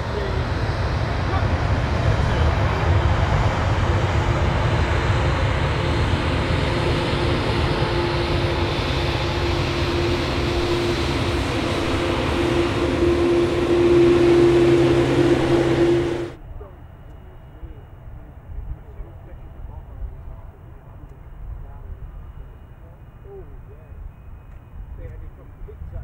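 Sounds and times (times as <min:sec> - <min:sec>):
jet engines roaring with whine: 0:00.0 - 0:26.0.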